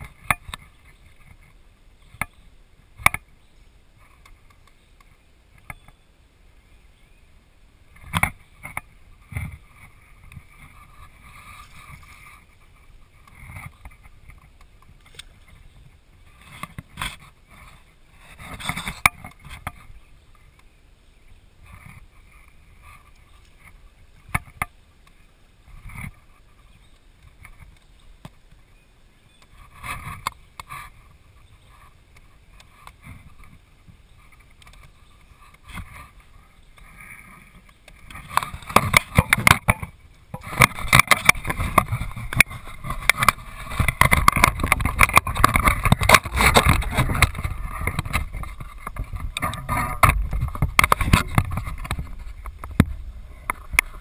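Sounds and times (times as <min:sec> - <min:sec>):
kayak knocking and rustling: 0:00.0 - 0:06.0, 0:07.9 - 0:20.8, 0:21.6 - 0:28.7, 0:29.3 - 0:54.0.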